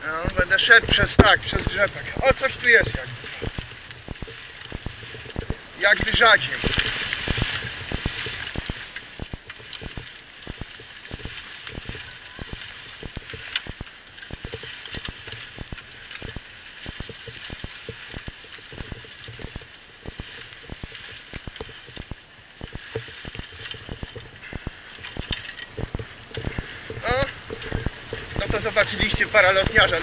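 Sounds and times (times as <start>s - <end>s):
footsteps: 0.0s - 30.0s
steady hiss: 0.0s - 30.0s.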